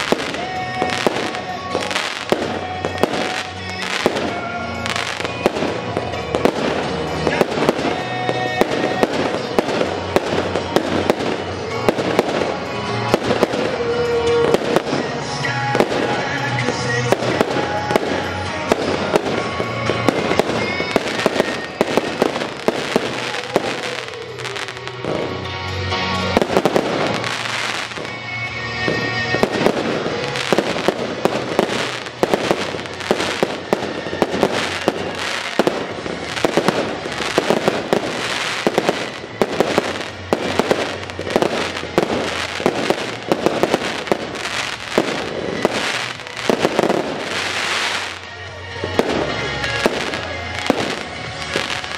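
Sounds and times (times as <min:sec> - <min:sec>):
fireworks bursting: 0:00.0 - 0:51.9
music: 0:00.0 - 0:51.9.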